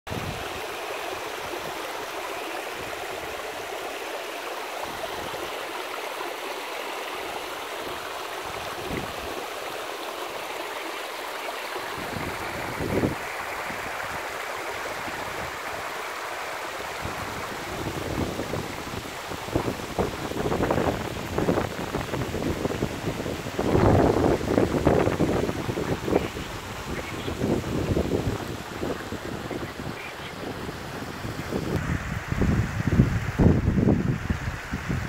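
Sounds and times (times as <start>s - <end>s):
stream water over rocks: 0.1s - 35.0s.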